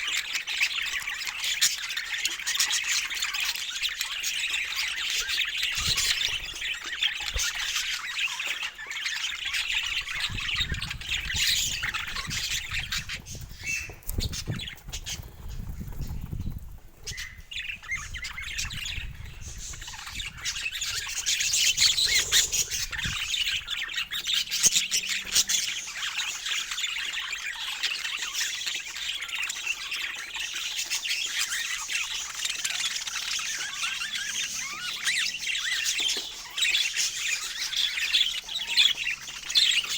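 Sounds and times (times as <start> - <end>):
budgies chattering and chirping: 0.0 - 39.9.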